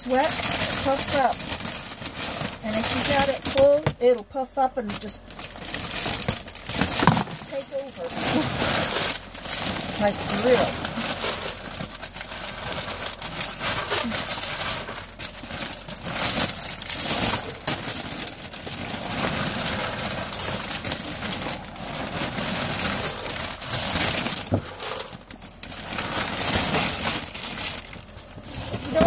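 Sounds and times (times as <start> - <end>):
pellets rattling into a tub: 0.0 - 4.2, 4.8 - 29.0
plastic bag crinkling: 0.0 - 29.0.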